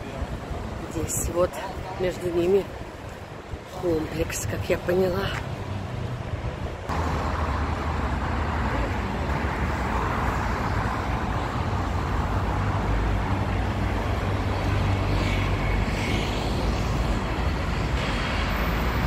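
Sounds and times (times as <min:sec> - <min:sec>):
busy road traffic: 0:00.0 - 0:19.0.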